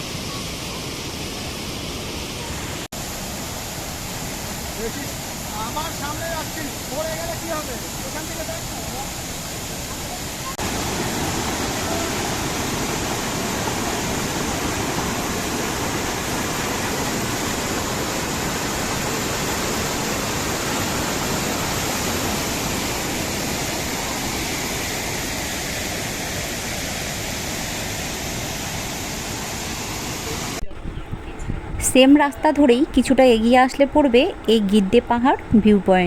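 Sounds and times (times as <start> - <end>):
waterfall rushing: 0.0 - 30.6.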